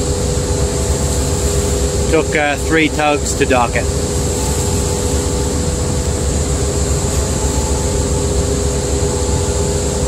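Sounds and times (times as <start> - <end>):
constant hum and hiss: 0.0 - 10.0
low machinery rumble: 0.0 - 10.0.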